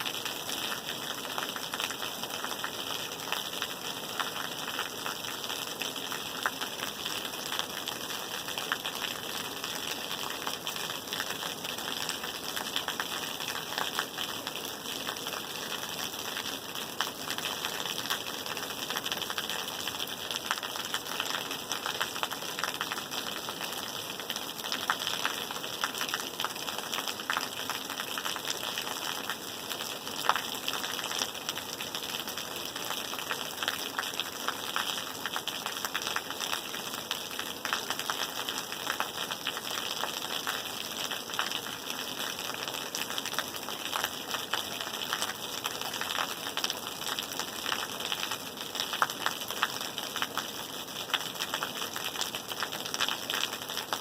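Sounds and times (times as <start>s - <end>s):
rain falling: 0.0s - 54.0s
raindrops pattering: 0.0s - 54.0s.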